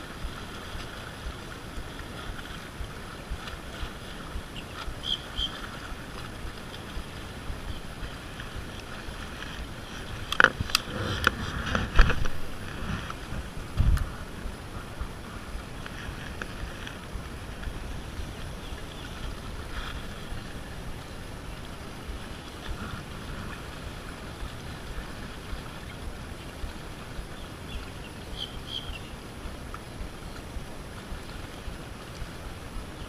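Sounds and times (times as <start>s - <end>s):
small waves lapping against rocks: 0.0s - 33.0s
wind noise on microphone: 0.0s - 33.0s.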